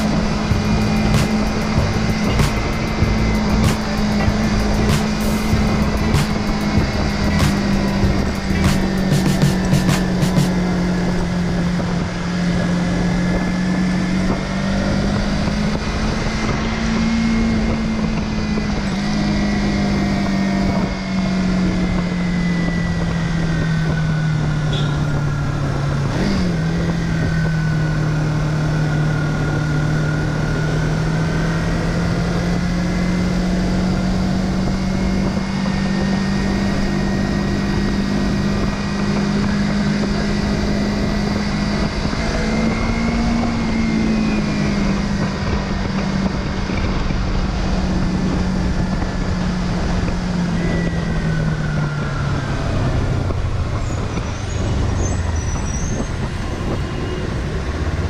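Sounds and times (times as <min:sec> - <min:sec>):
motorcycle engine cruising: 0:00.0 - 0:58.0
wind rushing over microphone: 0:00.0 - 0:58.0.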